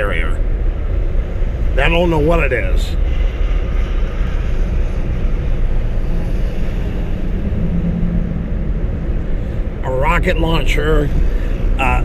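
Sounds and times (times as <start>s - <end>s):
low hum: 0.0s - 12.0s
tyre and engine rumble in cabin: 0.0s - 12.0s.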